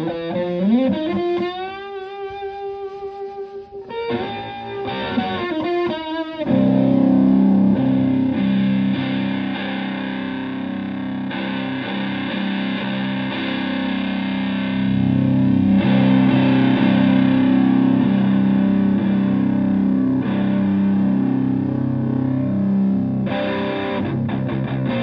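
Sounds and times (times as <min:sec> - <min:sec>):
fuzzed electric guitar chords: 0:00.0 - 0:25.0.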